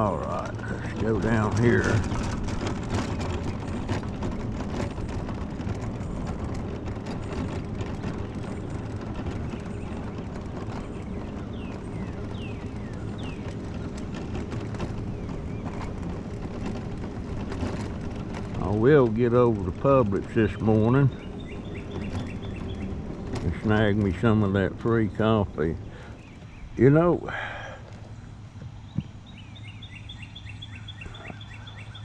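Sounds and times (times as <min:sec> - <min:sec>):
scooter motor hum: 0:00.0 - 0:32.0
tyres and body rattling: 0:00.0 - 0:32.0.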